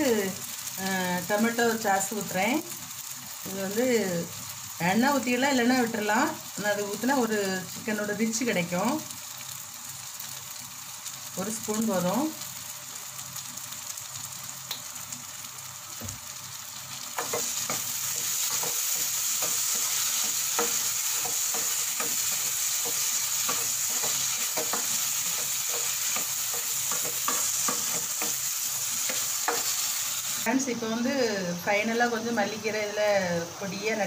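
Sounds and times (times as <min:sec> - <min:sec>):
chicken sizzling in a pan: 0:00.0 - 0:34.0.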